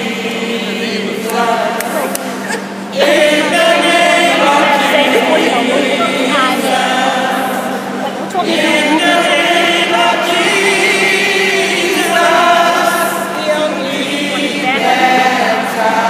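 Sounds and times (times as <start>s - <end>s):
group singing a hymn: 0.0s - 16.0s.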